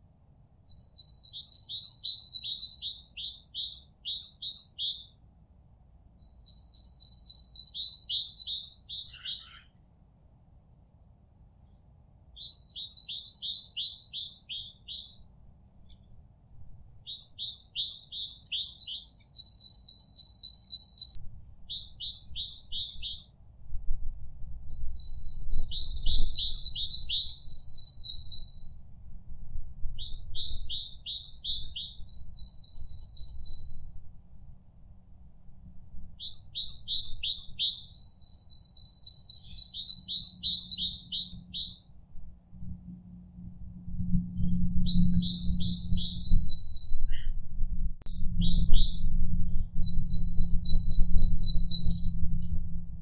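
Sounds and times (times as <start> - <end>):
songbird singing: 0.5 - 5.2, 6.2 - 9.8, 11.6 - 23.5, 24.7 - 29.0, 29.8 - 34.0, 35.6 - 43.4, 44.1 - 47.4, 48.0 - 52.8.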